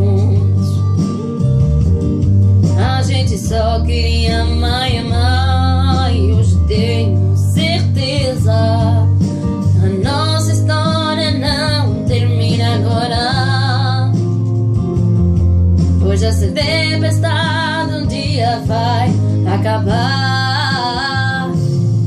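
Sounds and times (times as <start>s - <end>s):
woman singing pop ballad: 0.0s - 1.4s, 2.6s - 15.0s, 15.8s - 22.0s
acoustic guitar: 0.0s - 22.0s.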